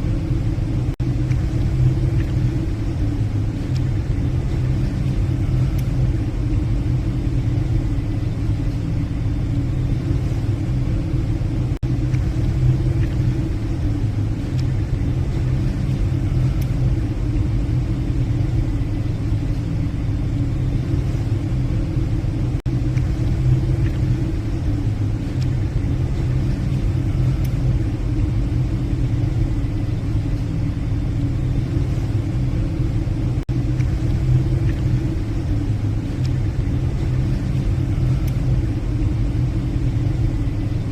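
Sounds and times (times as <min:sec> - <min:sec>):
ship engines droning: 0:00.0 - 0:40.9.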